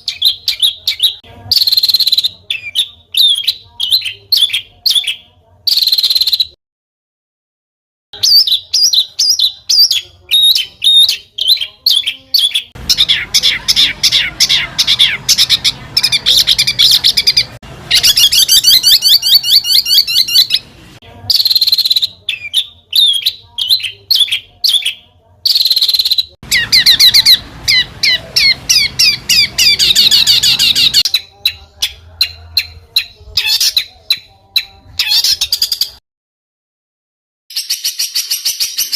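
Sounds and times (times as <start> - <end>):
small songbird singing: 0.0 - 6.6, 8.2 - 36.0.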